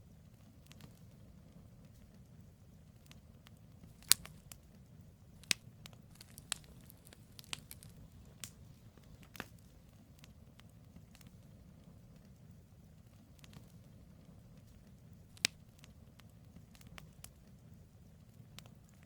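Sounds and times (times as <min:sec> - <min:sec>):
low rumble of flames: 0:00.0 - 0:19.0
campfire pops and crackles: 0:00.1 - 0:19.0.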